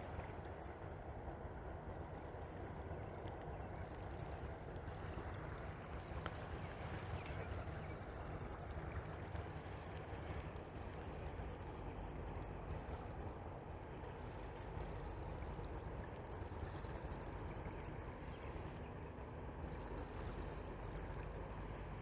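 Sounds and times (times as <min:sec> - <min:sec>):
moving water: 0:00.0 - 0:22.0
ship low rumble: 0:00.0 - 0:22.0.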